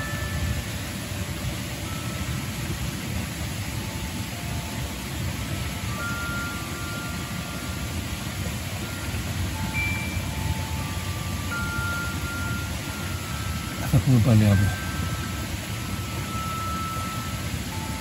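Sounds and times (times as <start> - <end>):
wind chimes ringing: 0.0 - 18.0.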